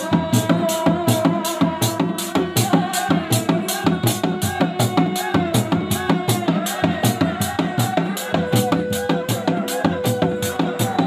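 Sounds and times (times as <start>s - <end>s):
drums beaten with sticks: 0.0s - 11.0s
shawm melody: 0.0s - 11.0s.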